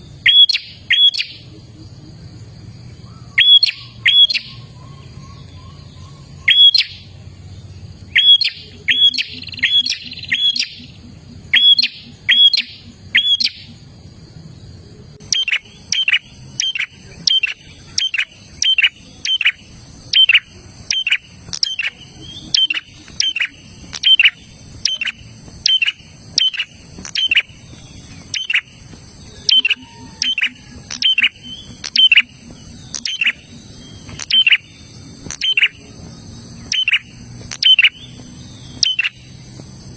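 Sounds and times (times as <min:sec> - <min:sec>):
bird chirping sharply: 0:00.1 - 0:01.5, 0:03.1 - 0:07.2, 0:08.1 - 0:13.8, 0:15.2 - 0:39.5.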